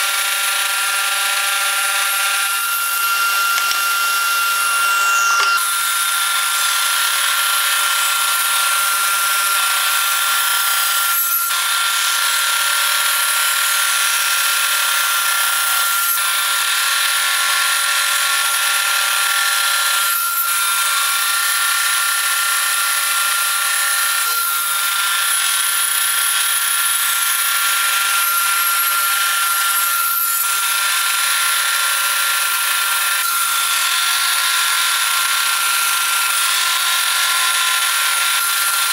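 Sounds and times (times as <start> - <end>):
table saw ripping wood: 0.0 - 38.9.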